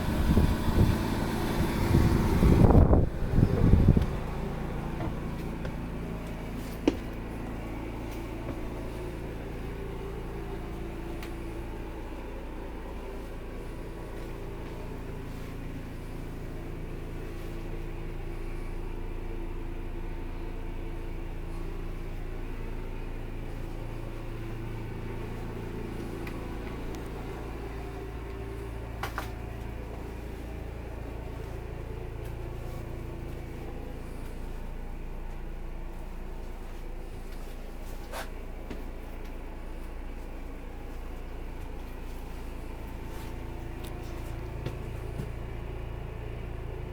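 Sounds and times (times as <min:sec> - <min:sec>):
low rumble with motor hum: 0:00.0 - 0:46.9.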